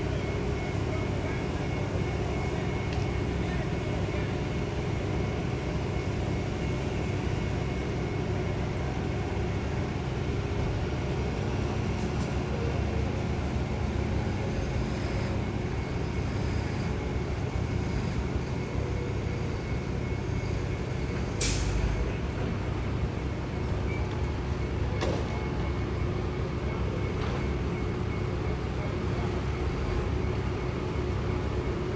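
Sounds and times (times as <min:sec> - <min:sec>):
low rumble of heavy engines: 0:00.0 - 0:31.9.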